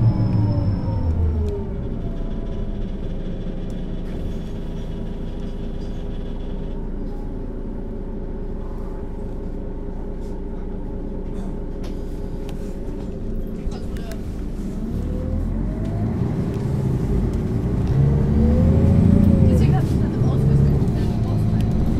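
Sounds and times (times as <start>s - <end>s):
bus diesel engine: 0.0s - 21.9s.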